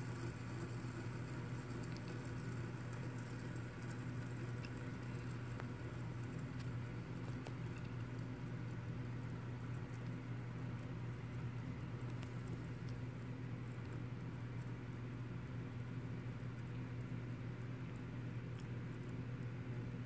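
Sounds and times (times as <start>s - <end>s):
fidget spinner whirring: 0.0s - 16.6s.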